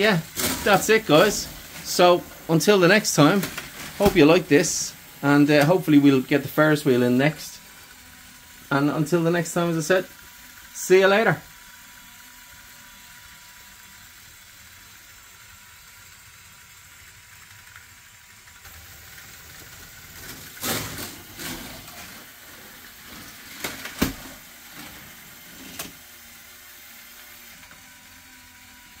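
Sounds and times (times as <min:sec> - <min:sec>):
faint mechanical hum: 0:00.0 - 0:29.0.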